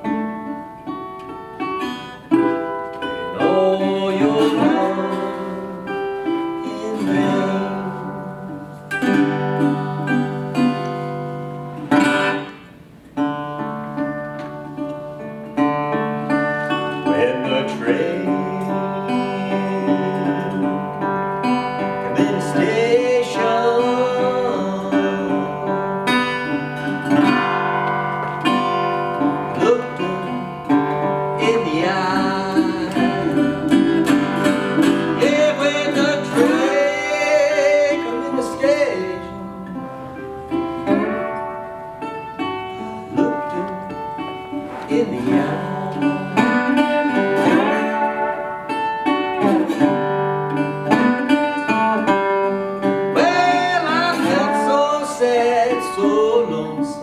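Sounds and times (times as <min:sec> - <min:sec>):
resonator guitar playing blues: 0:00.0 - 0:57.0.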